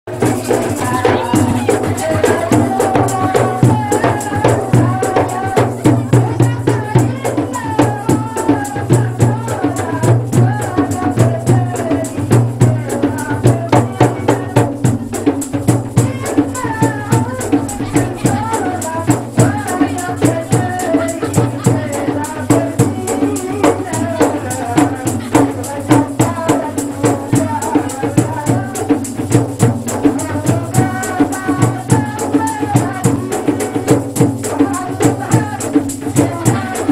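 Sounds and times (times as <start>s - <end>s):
woman singing into a microphone: 0.1s - 15.3s, 15.9s - 36.9s
hand drum beat: 0.1s - 36.9s
jingling rattle percussion: 0.1s - 36.9s.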